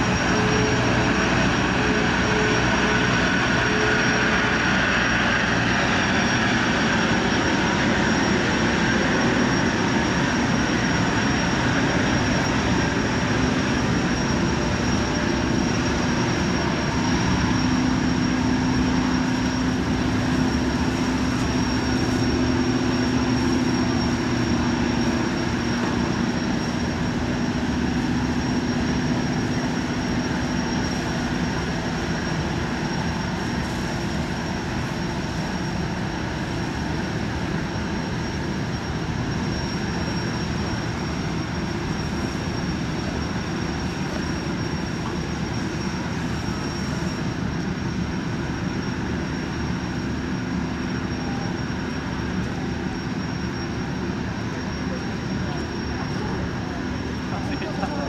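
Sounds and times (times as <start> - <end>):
gas turbines whining: 0.0 - 58.0.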